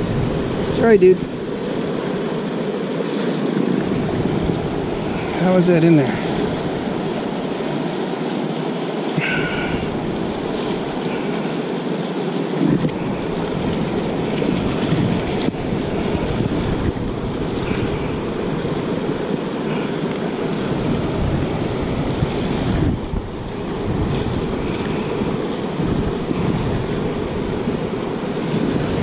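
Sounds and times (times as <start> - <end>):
wind buffeting microphone: 0.0 - 11.9, 12.5 - 29.0
river water rushing: 0.0 - 29.0.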